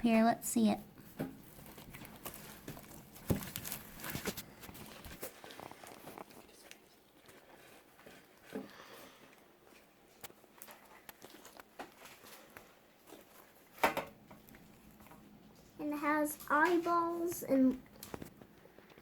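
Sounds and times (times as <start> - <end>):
hands working slime: 1.0 - 18.4.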